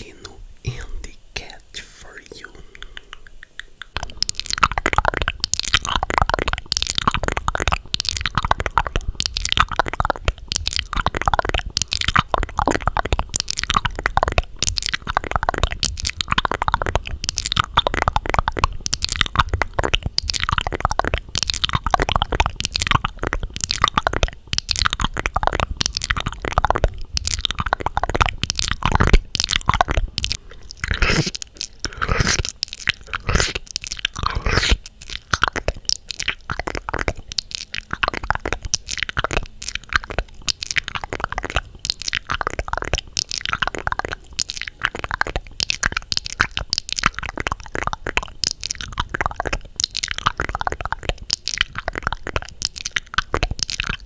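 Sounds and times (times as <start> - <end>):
crisp crunching and crackling: 3.9 - 54.0.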